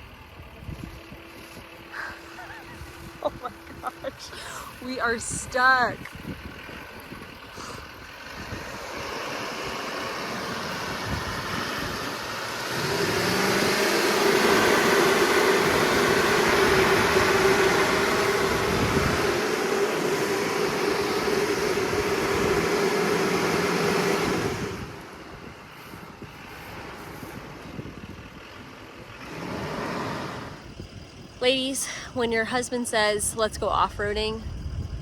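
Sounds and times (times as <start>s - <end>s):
truck engine revving: 0.0s - 31.8s.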